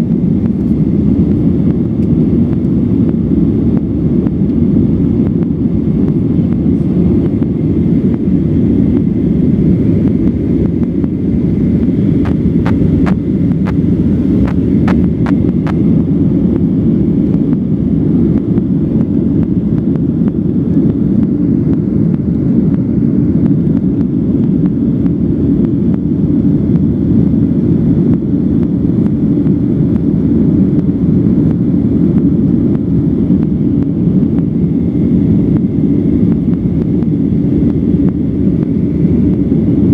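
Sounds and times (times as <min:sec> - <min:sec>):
faint steady whine: 0:00.0 - 0:39.9
jet engine cabin rumble: 0:00.0 - 0:39.9.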